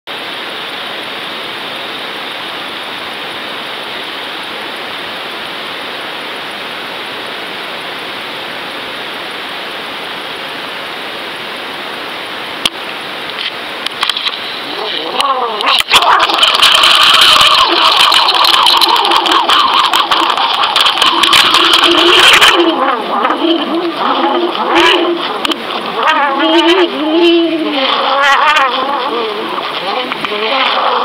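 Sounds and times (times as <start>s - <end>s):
underwater water rushing hiss: 0.2s - 31.0s.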